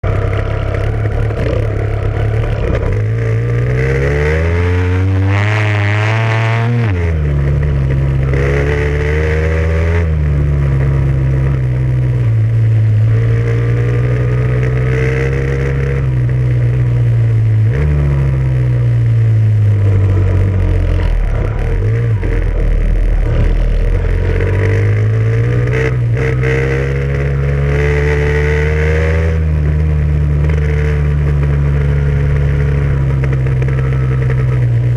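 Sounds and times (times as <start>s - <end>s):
off-road vehicle engine accelerating: 0.0s - 34.9s.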